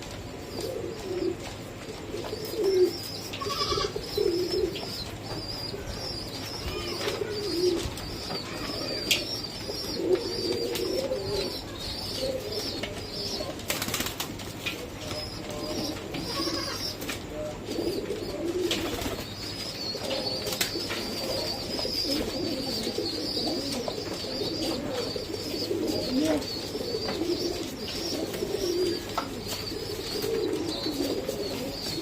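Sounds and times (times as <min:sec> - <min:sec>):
low wavering pigeon sounds: 0:00.0 - 0:32.0.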